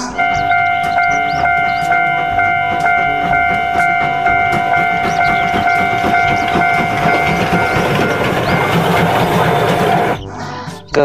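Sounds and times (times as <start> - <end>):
steam train whistle: 0.0 - 10.2
clatter of carriages rolling by: 0.0 - 10.3.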